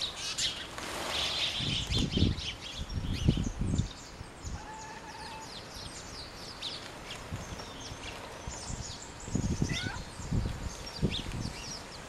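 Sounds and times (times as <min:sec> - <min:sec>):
flock of songbirds chirping: 0:00.0 - 0:12.0.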